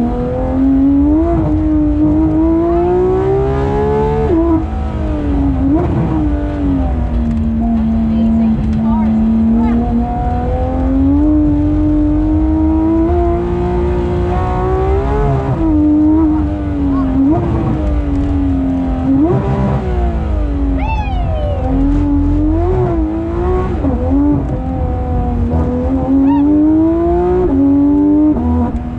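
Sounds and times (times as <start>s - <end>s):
race car engine revving: 0.0s - 28.9s.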